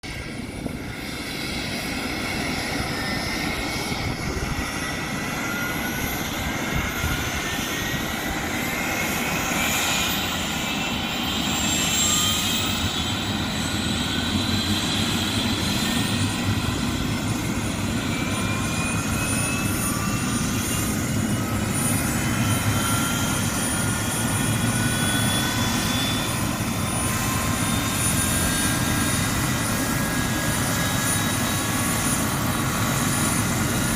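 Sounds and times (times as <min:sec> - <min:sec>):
helicopter engine and rotor noise: 0:00.0 - 0:33.9
helicopter turbine whine: 0:00.0 - 0:33.9.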